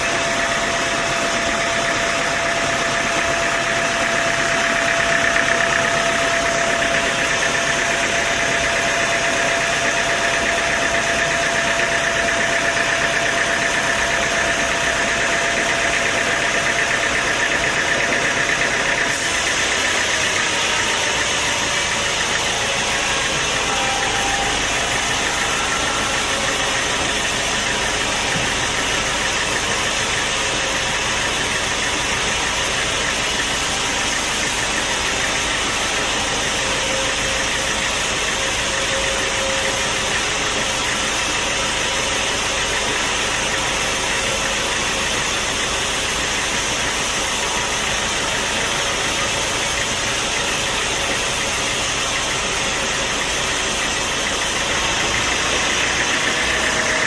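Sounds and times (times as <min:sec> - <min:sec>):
high machine whine: 0:00.0 - 0:57.0
sawmill machinery drone: 0:00.0 - 0:57.0.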